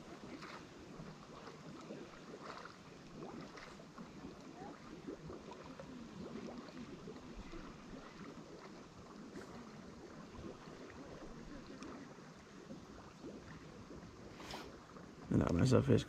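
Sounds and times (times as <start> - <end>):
pond water splashing and bubbling: 0.0 - 16.0.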